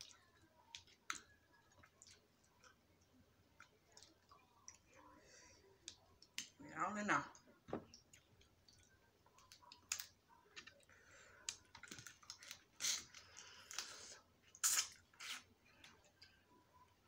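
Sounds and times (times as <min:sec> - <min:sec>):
chewing: 0:00.0 - 0:06.5, 0:07.9 - 0:16.5.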